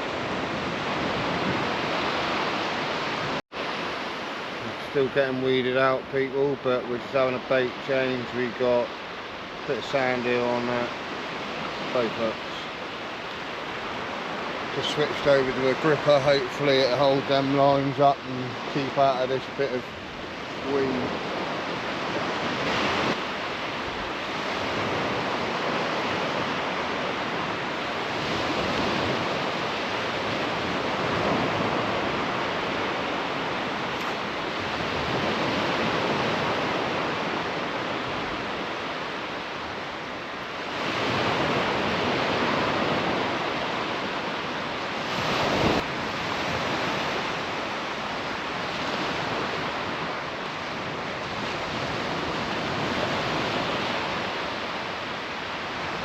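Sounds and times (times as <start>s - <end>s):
surf breaking on beach: 0.0s - 56.0s.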